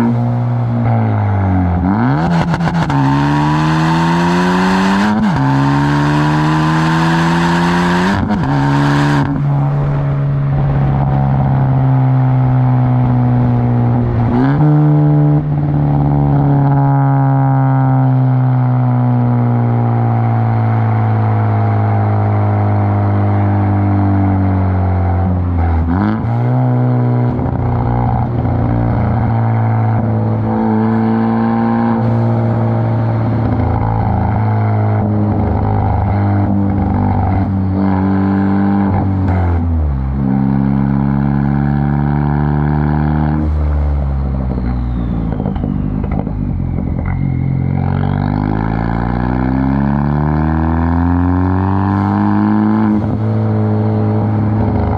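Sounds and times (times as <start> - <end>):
loud droning car engine: 0.0 - 54.9.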